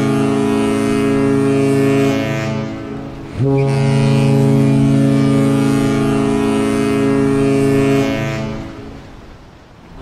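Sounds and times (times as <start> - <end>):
ship horn deep blast: 0.0 - 10.0.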